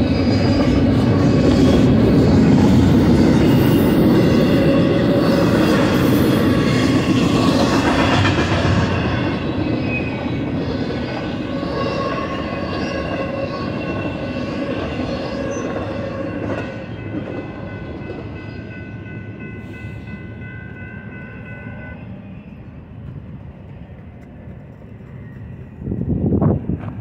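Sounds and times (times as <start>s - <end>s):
freight train rumbling past: 0.0s - 27.0s
steady high ringing tones: 1.8s - 23.4s.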